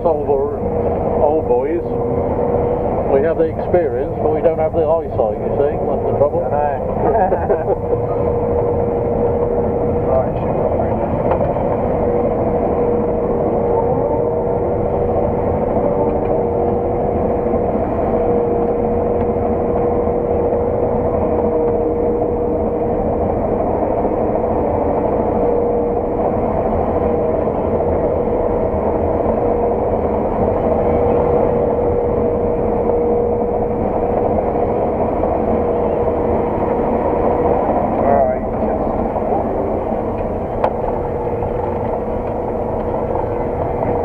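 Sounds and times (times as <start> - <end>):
combine harvester engine hum: 0.0 - 44.0
steady machine whine: 0.0 - 44.0.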